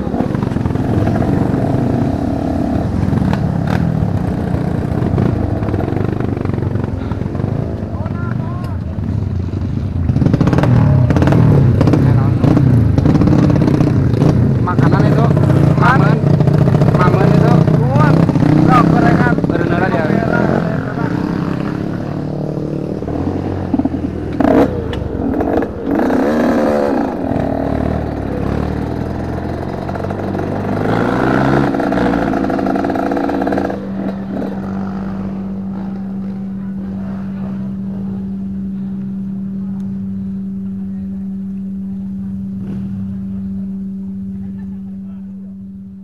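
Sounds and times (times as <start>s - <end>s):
motorcycle engine idling: 0.0s - 46.0s
motorcycle engines revving: 0.0s - 46.0s.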